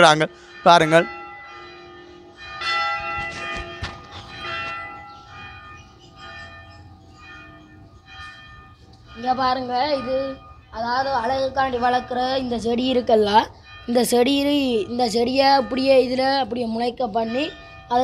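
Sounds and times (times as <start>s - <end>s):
temple bell ringing: 0.0s - 18.0s.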